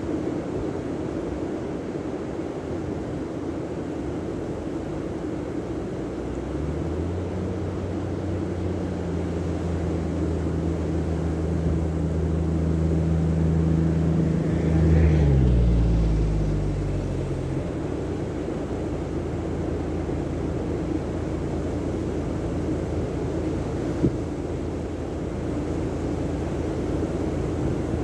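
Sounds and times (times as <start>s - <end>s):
wind: 0.0s - 28.0s
engine drone passing by: 4.2s - 28.0s.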